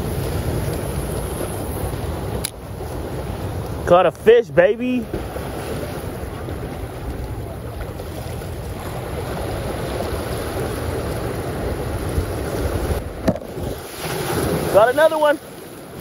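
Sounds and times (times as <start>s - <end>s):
small waves washing ashore: 0.0s - 16.0s
wind buffeting microphone: 0.0s - 16.0s.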